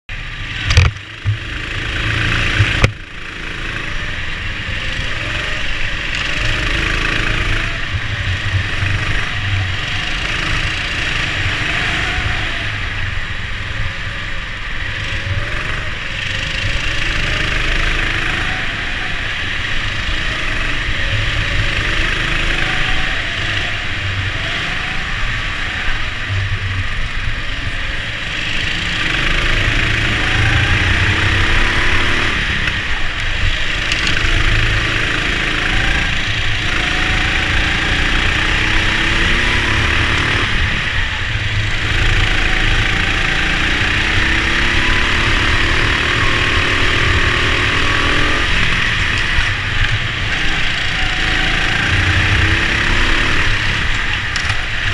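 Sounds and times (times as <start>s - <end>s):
go-kart engine rumble: 0.1s - 54.9s.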